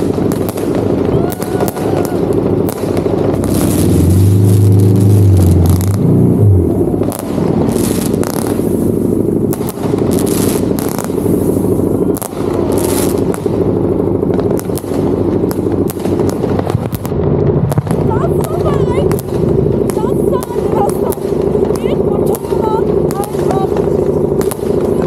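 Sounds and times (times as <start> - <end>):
fireworks and firecrackers bangs: 0.0 - 25.0
motorcycle engine running: 0.0 - 25.0.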